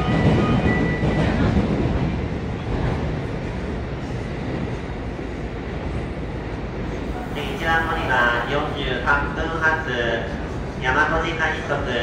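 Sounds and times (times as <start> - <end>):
train humming at platform: 0.0 - 12.0.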